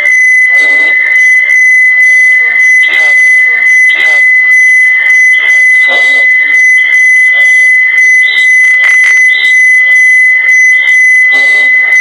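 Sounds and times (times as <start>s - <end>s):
high-pitched phone squeal: 0.0s - 12.0s.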